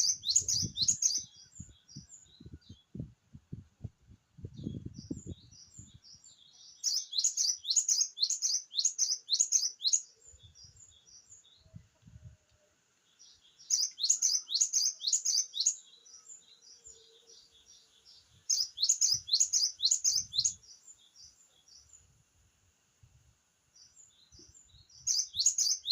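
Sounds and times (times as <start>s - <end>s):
bird singing high whistled notes: 0.0s - 3.0s, 4.6s - 11.8s, 13.2s - 21.9s, 23.8s - 25.9s.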